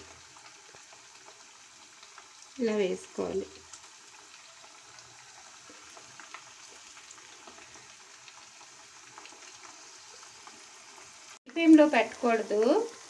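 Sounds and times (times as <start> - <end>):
deep-frying sizzle: 0.0 - 13.0.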